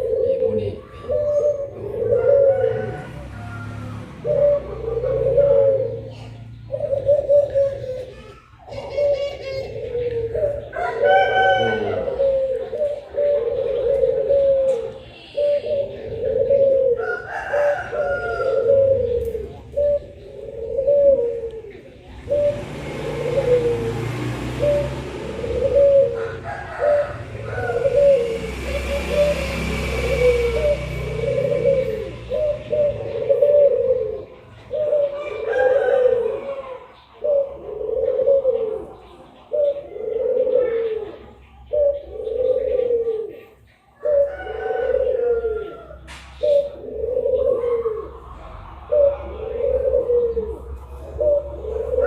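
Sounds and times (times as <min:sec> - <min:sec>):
doves cooing: 0:00.0 - 0:52.0.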